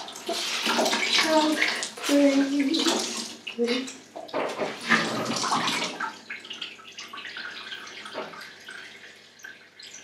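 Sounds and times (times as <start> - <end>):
water splashing in a washtub: 0.0 - 10.0.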